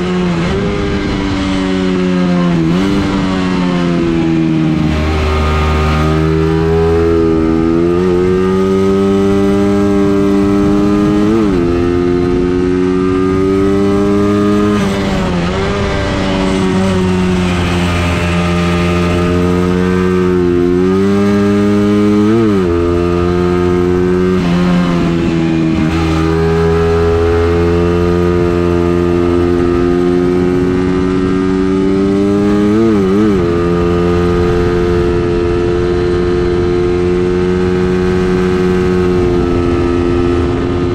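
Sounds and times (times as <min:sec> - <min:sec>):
vehicle engine revving hard: 0:00.0 - 0:40.9.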